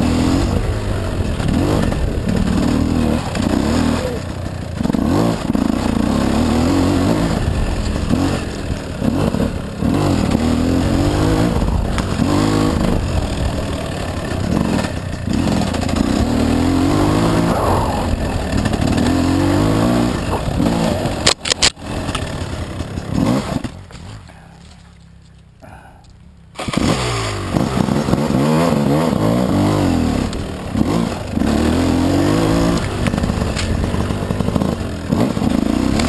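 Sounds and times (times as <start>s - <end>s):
dirt bike engine revving: 0.0s - 24.4s, 26.5s - 36.0s.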